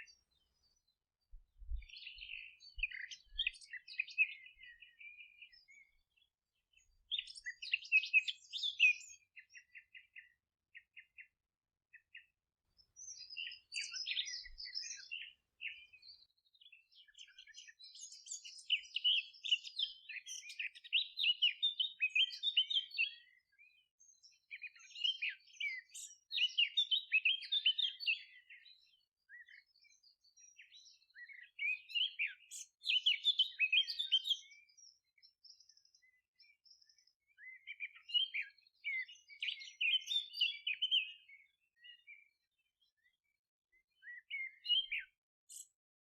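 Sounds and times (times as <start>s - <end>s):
songbirds twittering: 0.0s - 46.0s.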